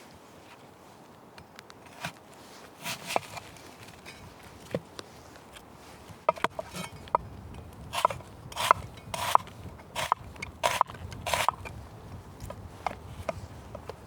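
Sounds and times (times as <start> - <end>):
crunching scraping strokes: 1.9 - 14.0.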